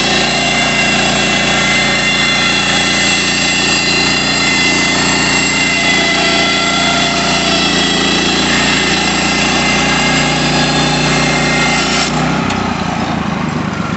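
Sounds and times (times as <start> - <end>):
bandsaw blade high whine: 0.0 - 13.9
small gasoline engine running: 0.0 - 13.9.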